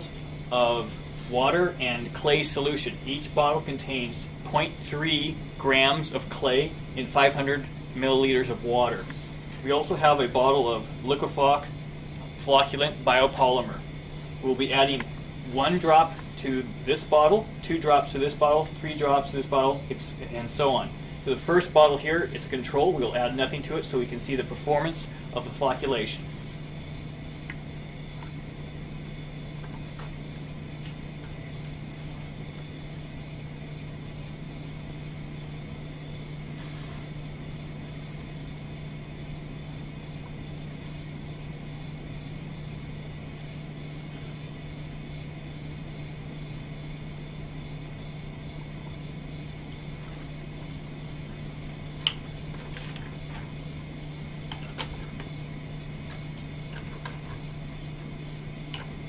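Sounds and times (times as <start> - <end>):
low hum with faint hiss: 0.0 - 59.0.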